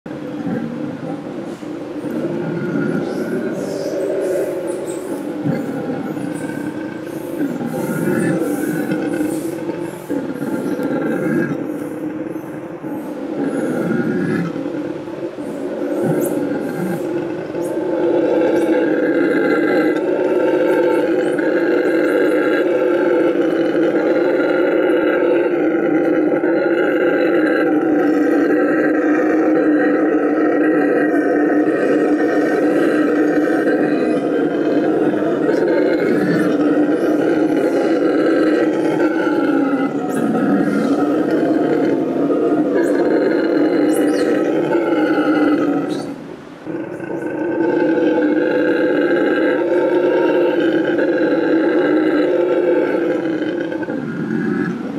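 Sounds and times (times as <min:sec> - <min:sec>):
howler monkey roaring: 0:00.1 - 0:54.9.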